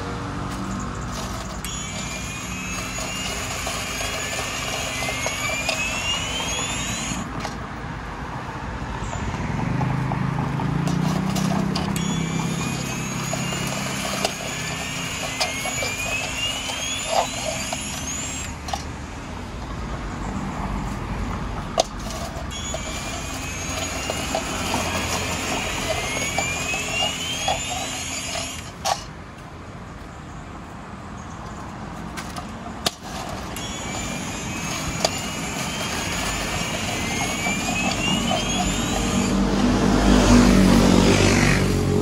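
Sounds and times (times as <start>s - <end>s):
engine running loudly: 0.0s - 7.6s, 9.3s - 19.2s, 21.8s - 29.0s, 33.1s - 42.0s
rising whine of vehicles pulling away: 0.0s - 29.1s, 33.0s - 42.0s
vehicles passing: 0.0s - 42.0s.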